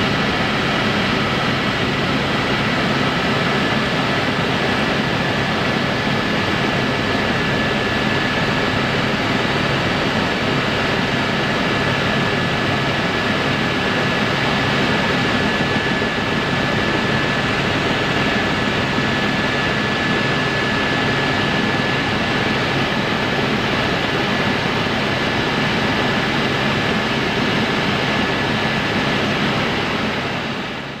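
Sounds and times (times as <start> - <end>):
helicopter engine and rotors: 0.0 - 31.0.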